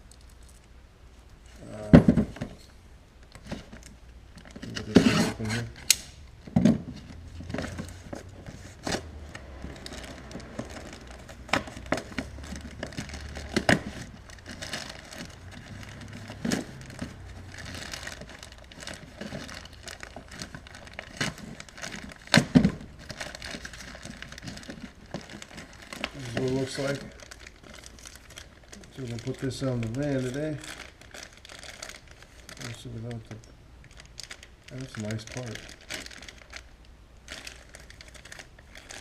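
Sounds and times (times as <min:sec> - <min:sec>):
packaging crinkling and tearing: 0:03.2 - 0:39.0.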